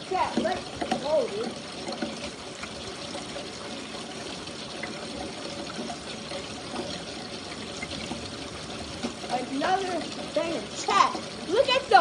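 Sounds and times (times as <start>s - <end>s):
faint water drips: 0.0s - 12.0s.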